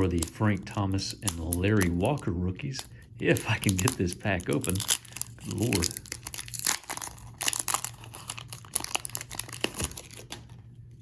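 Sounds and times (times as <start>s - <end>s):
wrapper crinkling and tearing: 0.0s - 10.7s.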